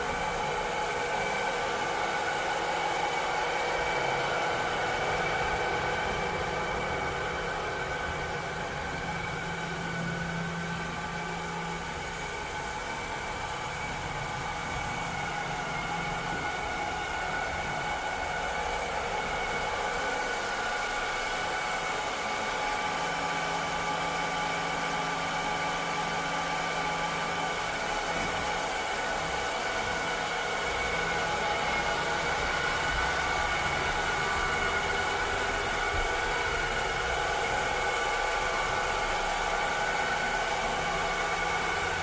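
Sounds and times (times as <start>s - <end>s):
robotic vacuum cleaner running: 0.0s - 42.0s.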